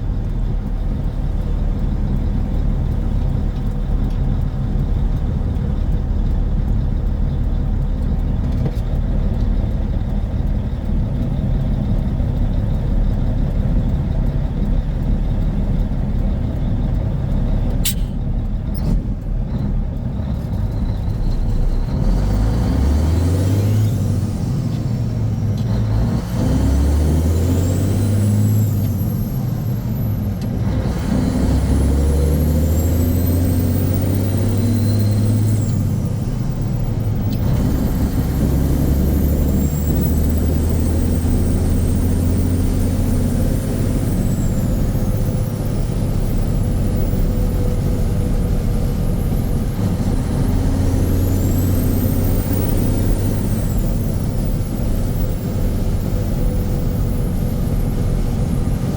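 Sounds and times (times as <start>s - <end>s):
deep diesel truck drone: 0.0s - 58.9s.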